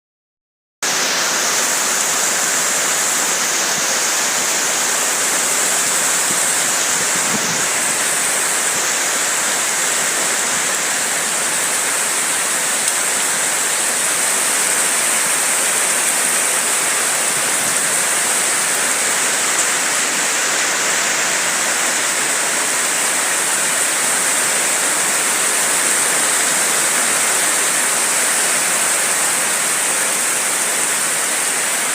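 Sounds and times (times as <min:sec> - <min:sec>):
rain falling: 0:00.8 - 0:31.9.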